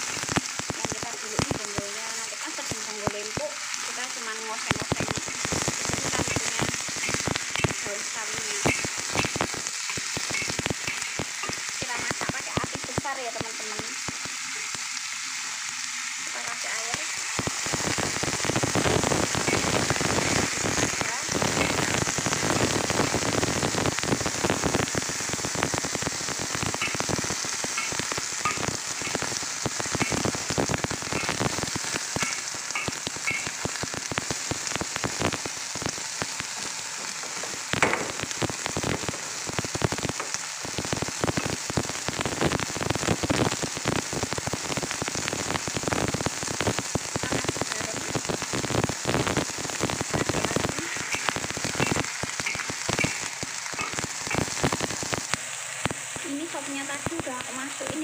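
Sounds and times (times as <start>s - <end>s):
water sizzling in hot wok: 0.0s - 58.0s.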